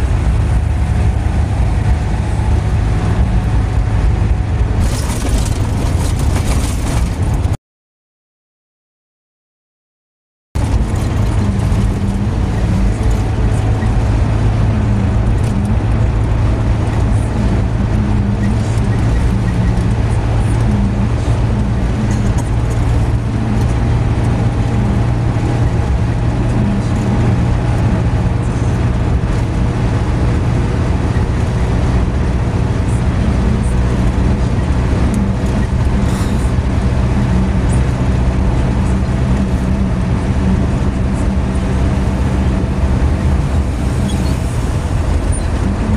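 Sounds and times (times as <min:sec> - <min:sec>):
car engine and tyres droning: 0:00.0 - 0:07.6, 0:10.6 - 0:45.9.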